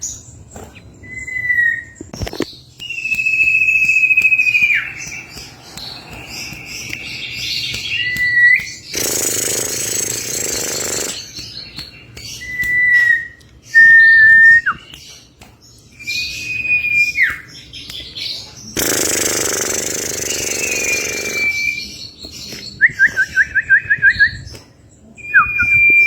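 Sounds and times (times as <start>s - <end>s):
bird whistling song: 1.0s - 15.2s, 15.9s - 24.6s, 25.2s - 26.0s.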